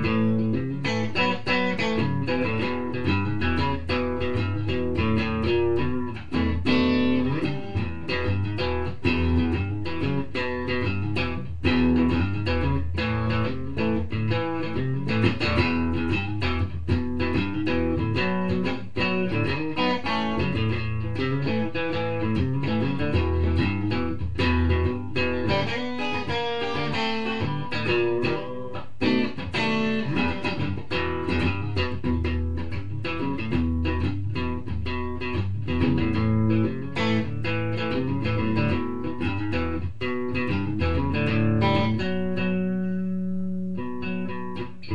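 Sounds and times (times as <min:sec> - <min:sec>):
guitar instrumental music: 0:00.0 - 0:44.9.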